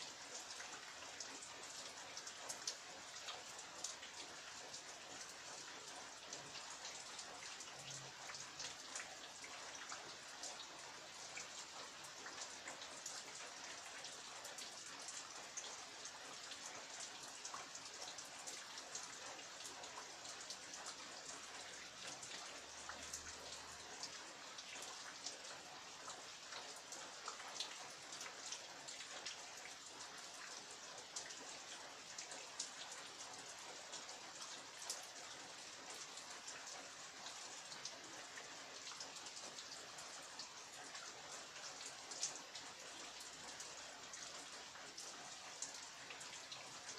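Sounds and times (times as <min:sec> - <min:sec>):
raindrops tapping on surfaces: 0:00.0 - 0:46.9.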